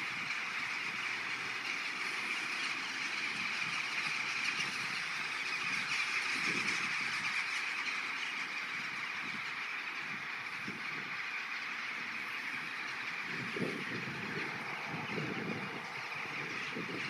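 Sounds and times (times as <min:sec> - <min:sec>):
flock of birds calling: 0:00.0 - 0:17.0.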